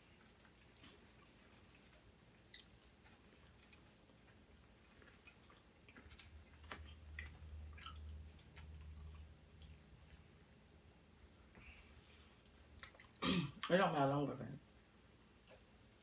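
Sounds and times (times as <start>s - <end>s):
chewing food: 0.0s - 13.7s.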